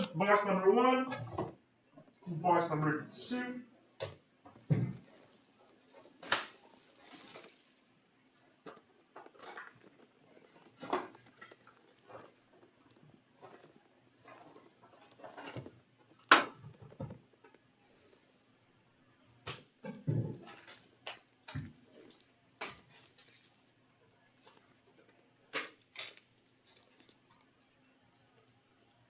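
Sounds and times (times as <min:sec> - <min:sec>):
wrapping crinkling and tearing: 0:03.2 - 0:18.4, 0:19.2 - 0:29.0.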